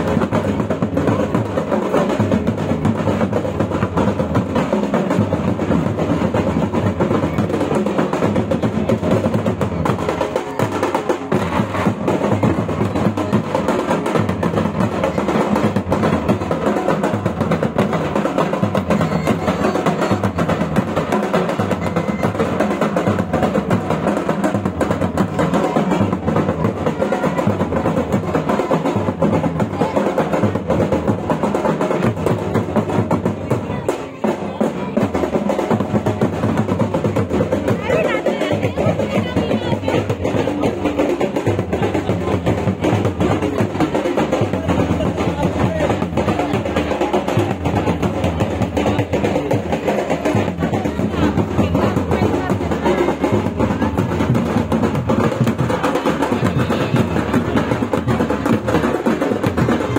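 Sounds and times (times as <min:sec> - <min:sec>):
folk drumming: 0:00.0 - 0:59.9.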